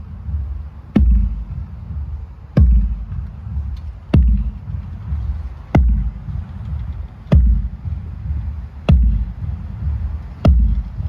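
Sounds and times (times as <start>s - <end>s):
bass drum booms: 0.0s - 11.0s.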